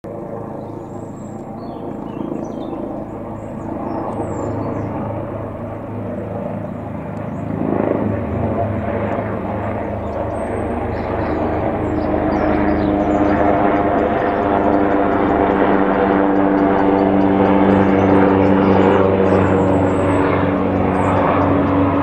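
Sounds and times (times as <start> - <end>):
helicopter rotor beat: 0.1 - 22.0
turbine noise: 2.9 - 22.0.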